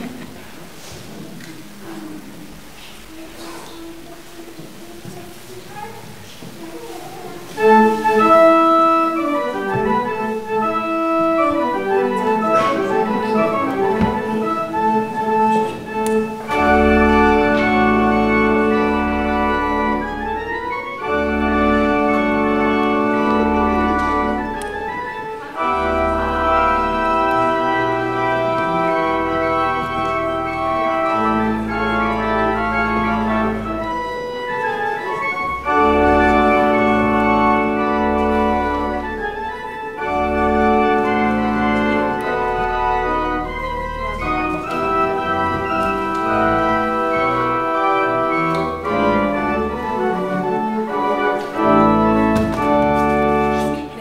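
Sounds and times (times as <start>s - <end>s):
church organ chords: 7.4s - 54.0s.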